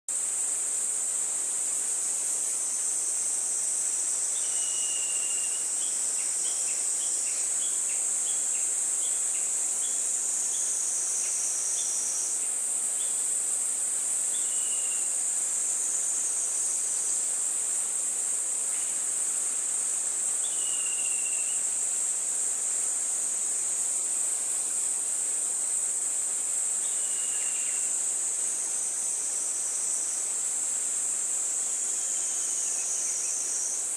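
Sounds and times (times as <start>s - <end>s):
insects droning: 0.1s - 33.9s.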